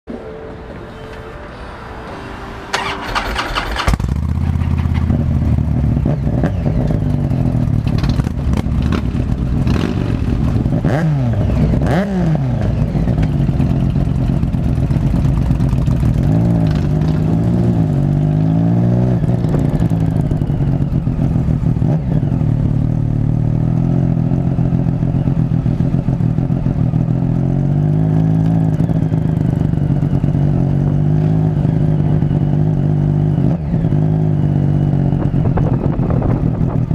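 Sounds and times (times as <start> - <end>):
motorcycle engine revving: 2.7 - 36.9.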